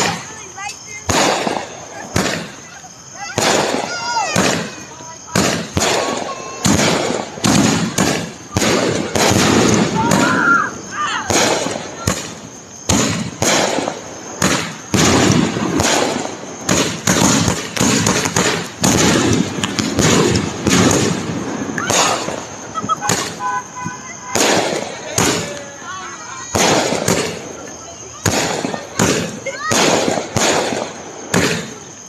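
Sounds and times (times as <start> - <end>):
firework whistling glide: 0.0 - 32.0
fireworks bangs: 0.0 - 32.0.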